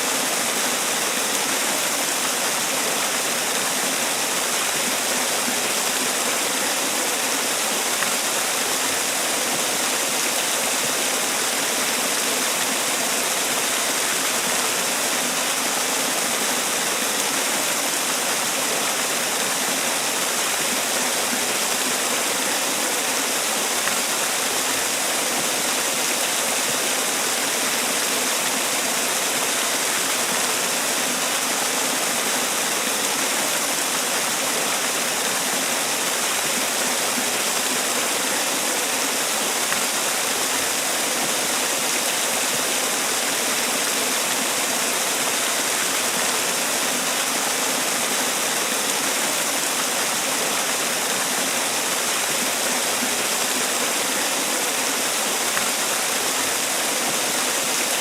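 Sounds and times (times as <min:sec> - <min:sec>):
waterfall splashing: 0:00.0 - 0:58.0.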